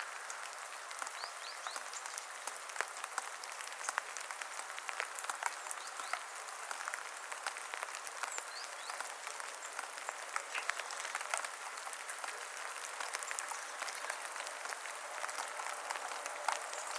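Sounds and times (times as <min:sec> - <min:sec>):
rain dripping on leaves: 0:00.0 - 0:16.9.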